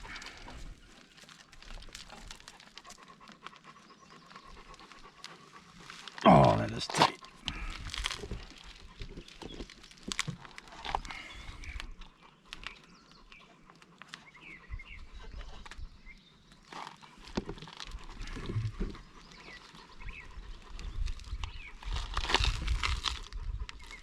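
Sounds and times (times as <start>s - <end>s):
birds chirping: 1.8s - 22.0s.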